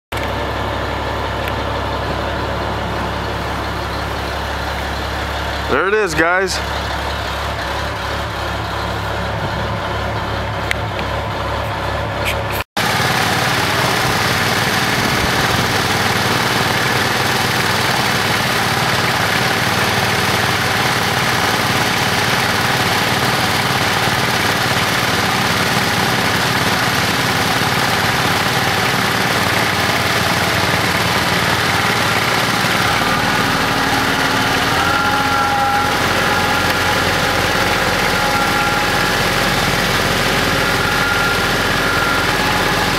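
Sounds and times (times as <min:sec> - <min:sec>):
diesel tractor engine running: 0:00.1 - 0:42.9.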